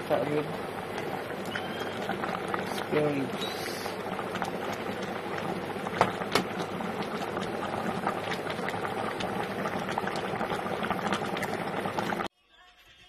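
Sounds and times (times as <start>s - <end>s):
stew boiling and bubbling: 0.0s - 12.3s.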